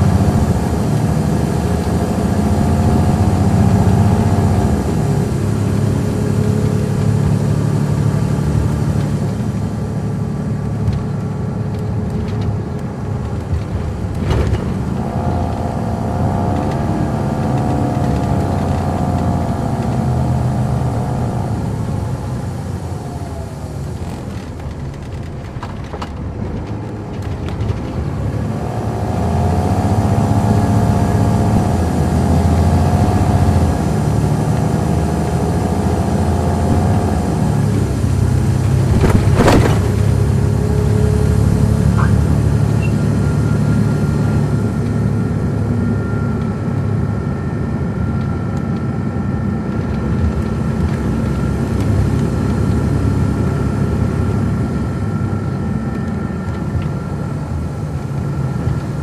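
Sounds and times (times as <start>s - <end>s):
diesel engine under load: 0.0s - 59.0s.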